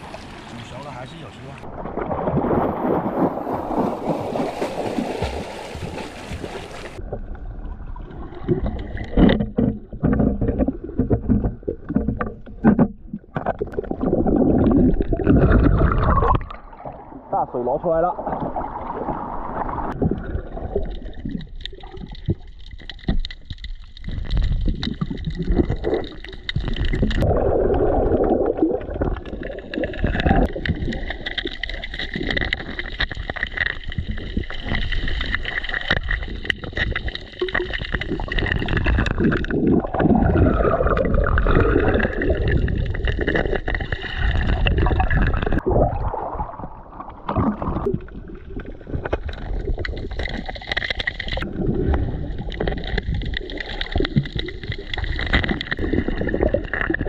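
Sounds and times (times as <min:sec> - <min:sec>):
underwater gurgling and bubbling: 0:01.4 - 0:57.0.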